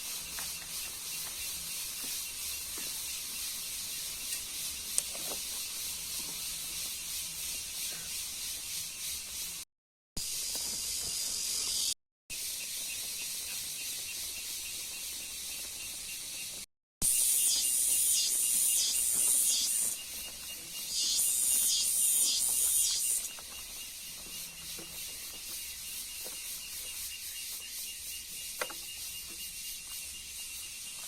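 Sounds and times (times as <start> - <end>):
insects buzzing: 0.0 - 9.6, 10.2 - 31.0.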